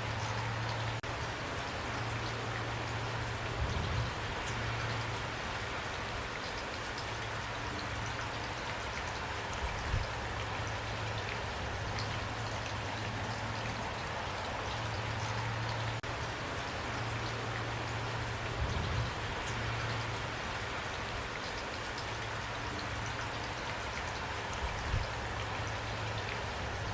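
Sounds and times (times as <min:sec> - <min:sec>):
raindrops ticking: 0:00.0 - 0:26.9
steady rain falling: 0:00.0 - 0:26.9.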